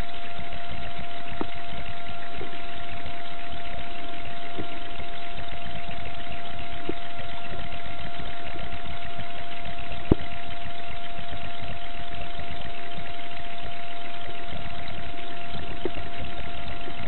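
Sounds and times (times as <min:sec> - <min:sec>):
thin whine: 0:00.0 - 0:17.0.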